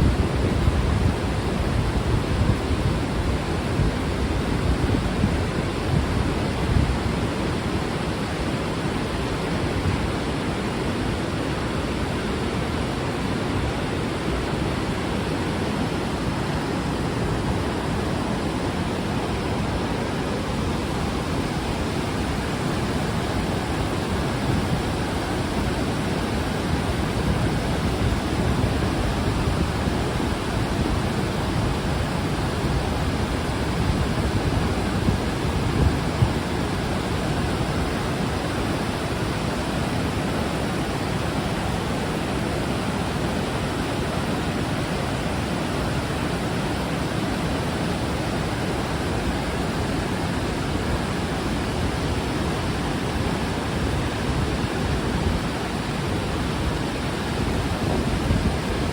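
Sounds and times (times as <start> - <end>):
river and waterfall rushing: 6.4 - 58.9.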